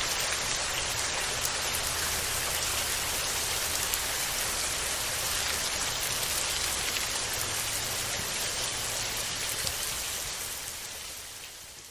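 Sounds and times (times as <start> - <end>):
steady rain: 0.0 - 11.9.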